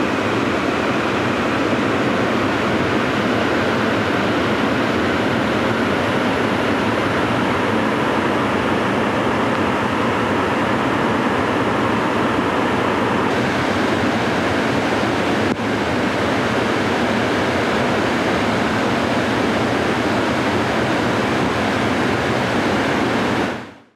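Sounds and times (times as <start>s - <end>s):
water rushing over a dam: 0.0s - 23.6s.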